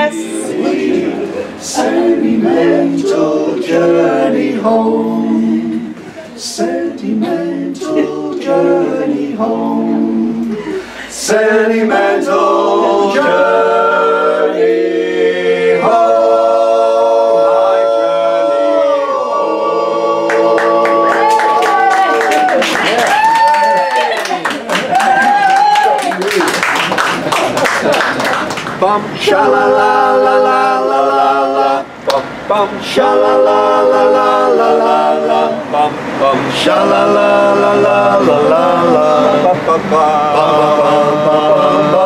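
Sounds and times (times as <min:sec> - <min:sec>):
men singing a cappella harmony: 0:00.0 - 0:21.5, 0:28.8 - 0:42.0.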